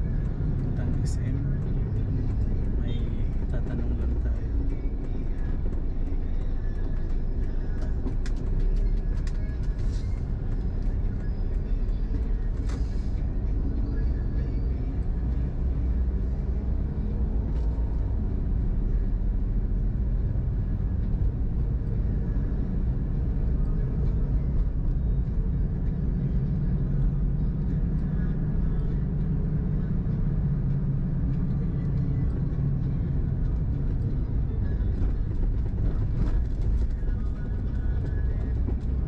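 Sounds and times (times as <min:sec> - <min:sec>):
car cabin road rumble: 0:00.0 - 0:39.0.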